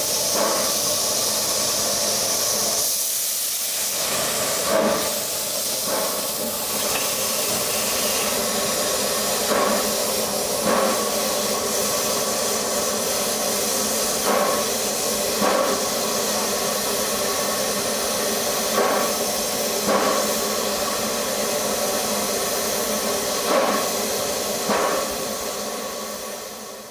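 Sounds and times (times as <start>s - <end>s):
steam locomotive hissing: 0.0s - 26.9s.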